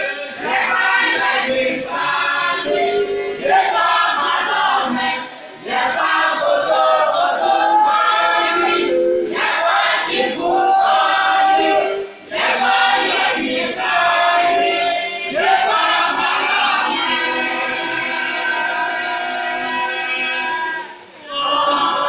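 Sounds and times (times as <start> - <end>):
congregation singing: 0.0 - 22.0.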